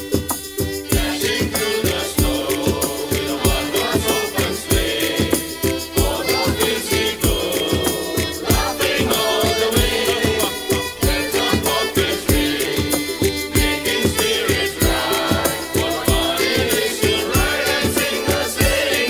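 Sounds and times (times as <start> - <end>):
rattling percussion: 0.0 - 19.0
steady beat thumps: 0.0 - 19.0
group singing a carol: 0.8 - 19.0.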